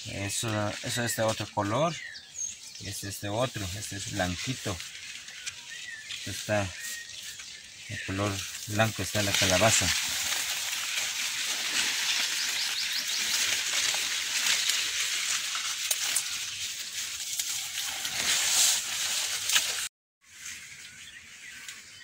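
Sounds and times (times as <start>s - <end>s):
dry leaves rustling: 0.0s - 22.0s.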